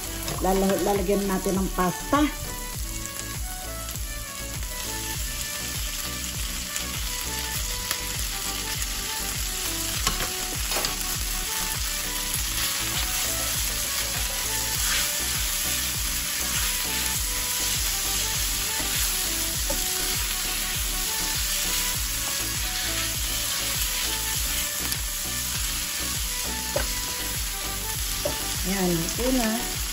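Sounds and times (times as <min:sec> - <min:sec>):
pasta sizzling in frying pan: 0:00.0 - 0:29.9.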